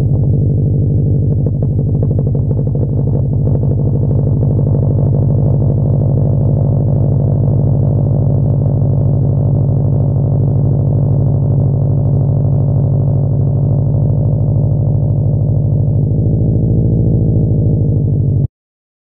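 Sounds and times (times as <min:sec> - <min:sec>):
car engine idling: 0:00.0 - 0:18.5.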